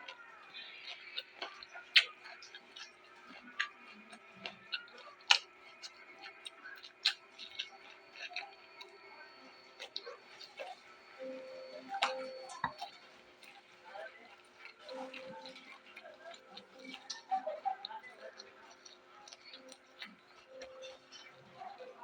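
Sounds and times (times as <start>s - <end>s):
crunching raw vegetables: 0.0s - 22.0s.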